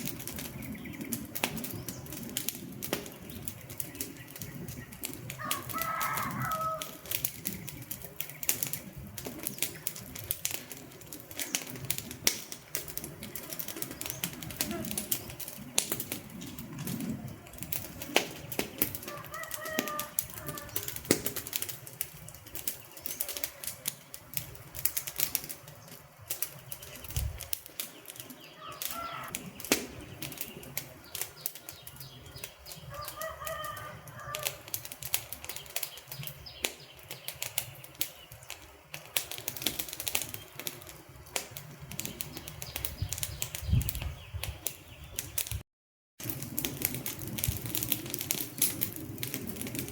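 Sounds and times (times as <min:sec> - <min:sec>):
whistling tones from fire: 0:00.0 - 0:45.6, 0:46.2 - 0:49.9
wood fire crackling: 0:00.0 - 0:45.6, 0:46.2 - 0:49.9.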